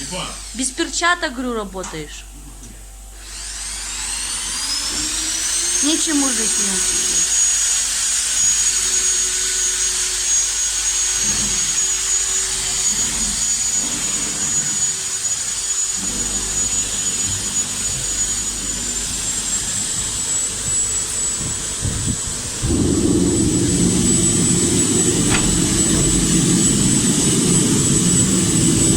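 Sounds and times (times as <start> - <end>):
power tool whining: 3.1 - 28.9.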